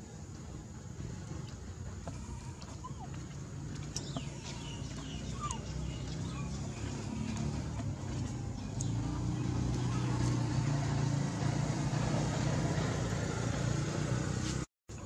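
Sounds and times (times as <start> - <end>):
low engine hum: 0.0 - 14.7.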